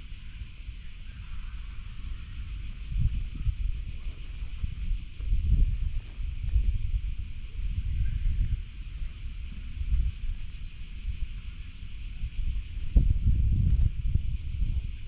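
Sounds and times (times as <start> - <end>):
high-pitched hiss: 0.0 - 15.0
wind buffeting microphone: 0.0 - 15.0.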